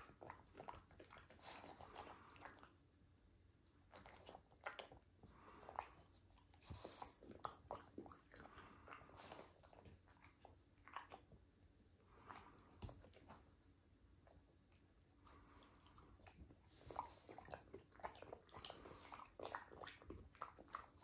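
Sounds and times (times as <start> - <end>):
dog chewing and crunching: 0.0 - 2.8, 3.8 - 11.4, 14.3 - 21.0.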